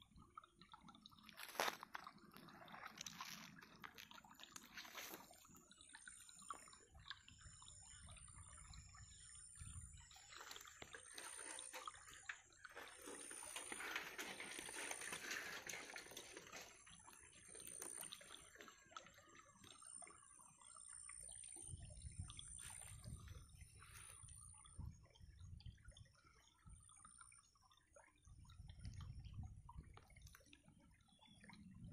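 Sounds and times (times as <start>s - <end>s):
small wet clicks: 0.0s - 21.7s, 25.9s - 31.9s
water trickling and dripping: 0.0s - 31.9s.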